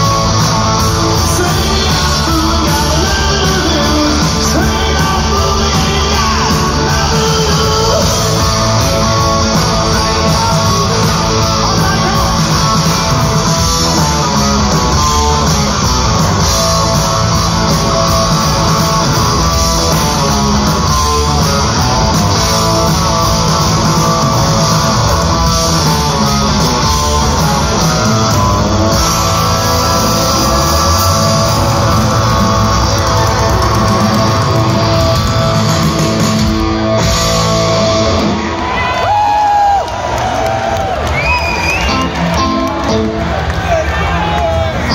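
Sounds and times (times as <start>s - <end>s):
bass guitar: 0.0s - 44.9s
electric guitar: 0.0s - 44.9s
rock band playing live: 0.0s - 44.9s.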